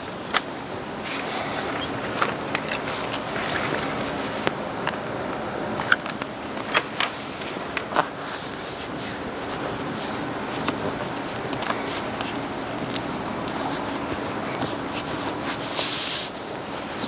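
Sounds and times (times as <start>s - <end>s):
membrane crackling: 0.0s - 16.0s
membrane rustling: 0.0s - 17.0s
steady background hiss: 0.0s - 17.0s.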